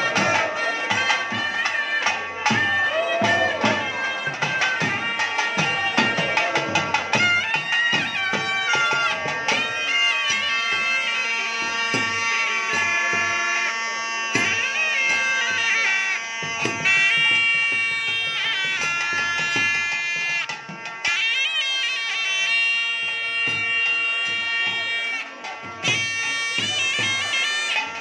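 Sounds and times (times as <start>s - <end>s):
drum strokes: 0.0s - 13.3s, 14.3s - 21.4s, 22.7s - 28.0s
double-reed pipes melody: 0.0s - 28.0s.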